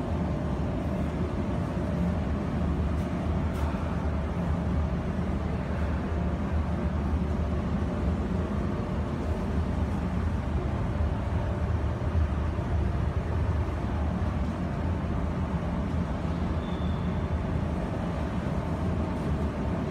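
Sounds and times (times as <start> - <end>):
cooling fans humming: 0.0 - 19.9.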